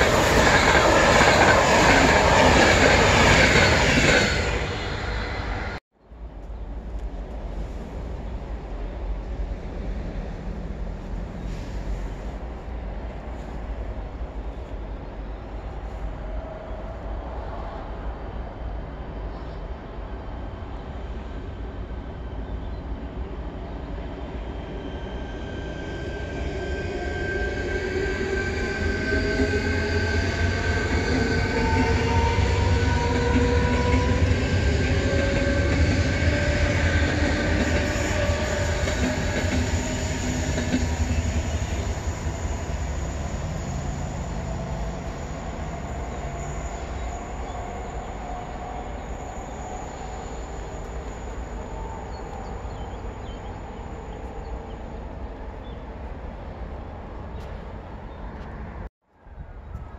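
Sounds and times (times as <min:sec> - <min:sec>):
electric train passing: 0:00.0 - 0:05.8, 0:06.6 - 0:58.8.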